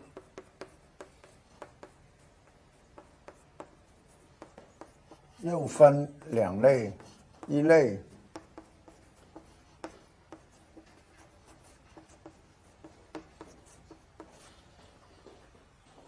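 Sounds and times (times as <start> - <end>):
writing scratching on a board: 0.0 - 15.4.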